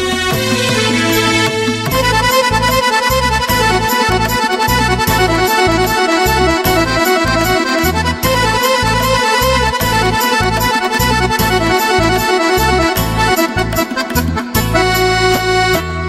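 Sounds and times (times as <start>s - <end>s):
steady bass beat: 0.0s - 15.9s
instrumental melody: 0.0s - 16.0s.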